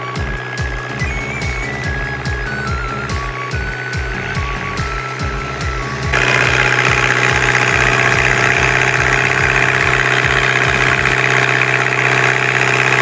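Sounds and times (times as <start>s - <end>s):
music with thumping bass beat: 0.0s - 11.2s
vehicle engine running loudly: 0.0s - 13.0s.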